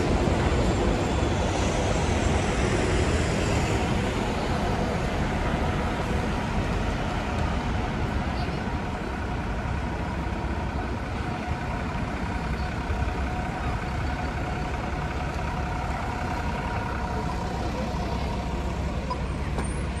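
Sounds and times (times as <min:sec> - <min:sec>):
buses and cars rumbling: 0:00.0 - 0:20.0.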